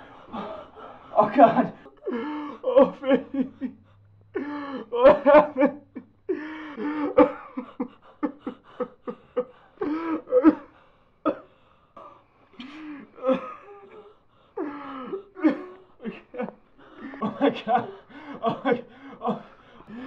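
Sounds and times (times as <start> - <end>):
person sobbing and crying: 0.0 - 11.5, 12.6 - 20.0.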